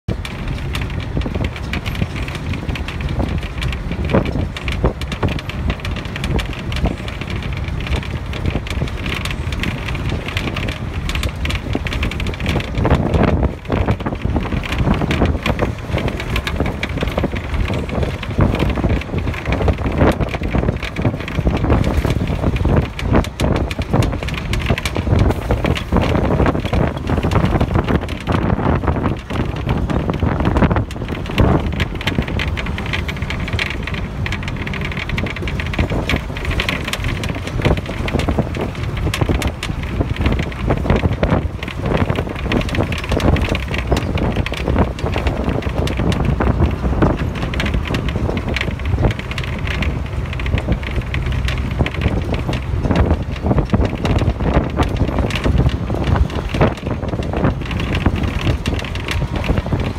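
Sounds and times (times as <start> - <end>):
moving vehicle rumble: 0.0 - 59.9
wind buffeting microphone: 0.1 - 59.9.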